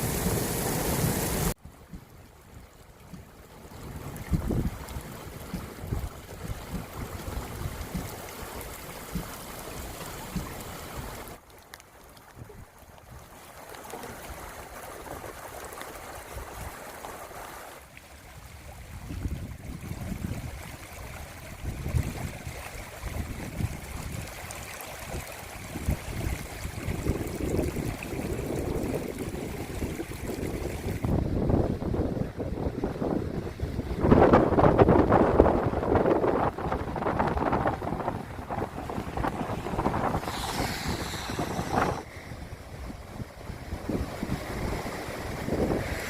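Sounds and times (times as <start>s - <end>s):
wind buffeting microphone: 0.0s - 11.4s, 18.5s - 46.0s
rainwater rushing: 0.0s - 46.0s.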